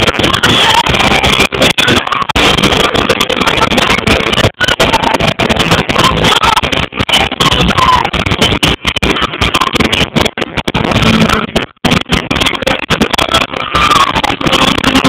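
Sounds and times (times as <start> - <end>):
distorted live rock band: 0.0 - 15.0.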